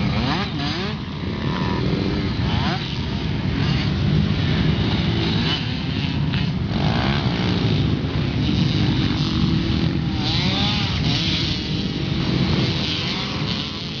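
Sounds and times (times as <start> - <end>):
pit bike engines revving: 0.0 - 14.0.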